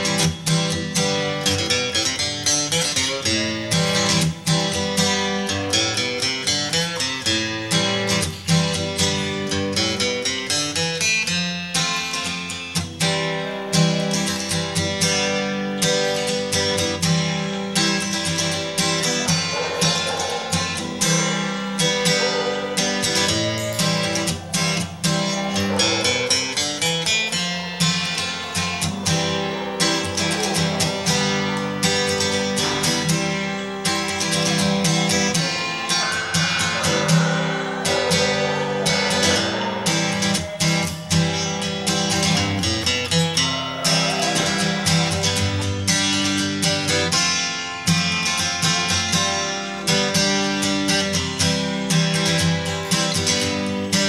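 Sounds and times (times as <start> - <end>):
acoustic guitar picking and strumming: 0.0 - 54.0.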